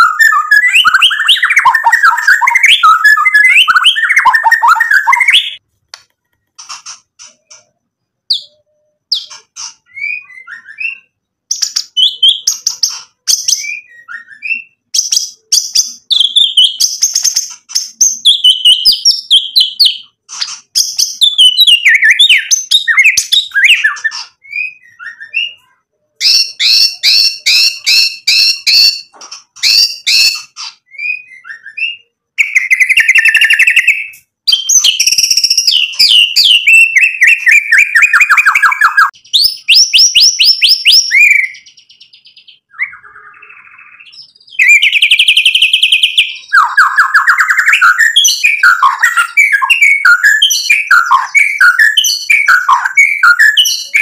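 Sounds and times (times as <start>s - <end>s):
bird singing: 0.0s - 5.6s, 6.4s - 54.0s.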